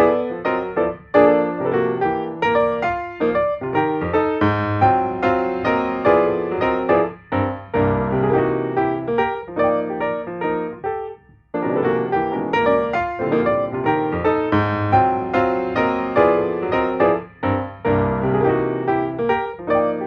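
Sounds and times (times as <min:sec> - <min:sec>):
piano notes: 0:00.0 - 0:20.0.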